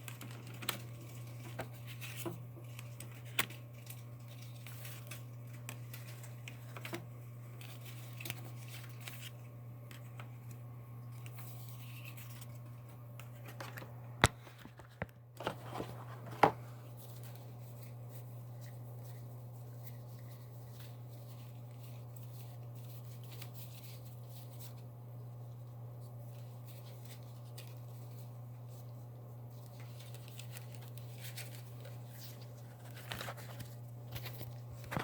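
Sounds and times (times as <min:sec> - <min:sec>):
handling rustles and clicks: 0:00.0 - 0:24.8, 0:26.0 - 0:35.0
steady low hum: 0:00.0 - 0:35.0.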